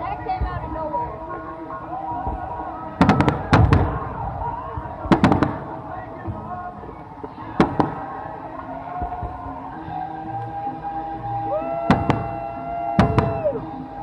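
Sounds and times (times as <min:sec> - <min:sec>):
fireworks exploding with sharp bangs: 0:00.0 - 0:10.7, 0:11.3 - 0:14.0
music playing: 0:00.0 - 0:14.0.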